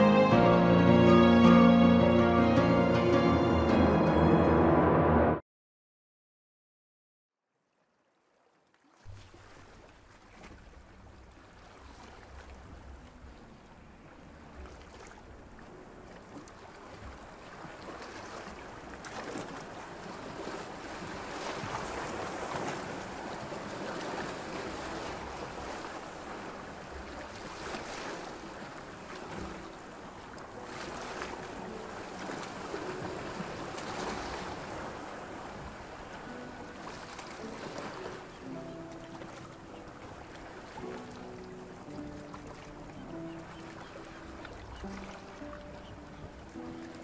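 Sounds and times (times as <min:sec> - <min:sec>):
wind: 0:07.6 - 0:47.0
sea waves washing: 0:09.0 - 0:47.0.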